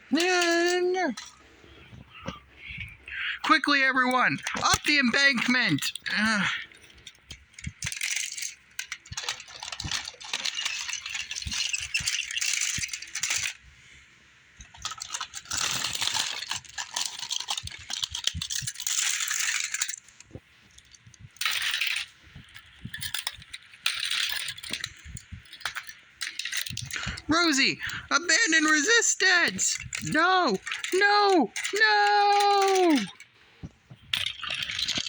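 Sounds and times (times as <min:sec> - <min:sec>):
toy trains rattling and clinking: 0:00.0 - 0:35.0.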